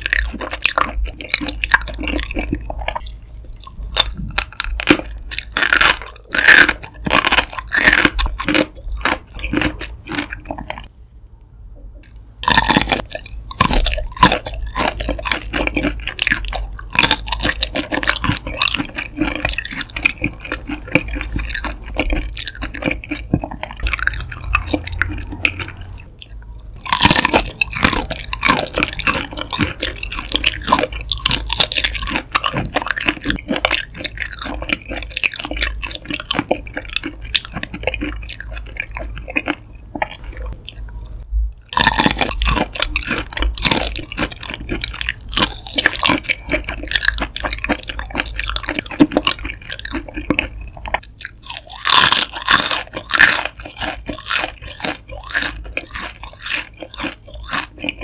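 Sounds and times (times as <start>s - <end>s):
chewing shrimp crackles: 0.0s - 10.9s, 12.0s - 58.0s.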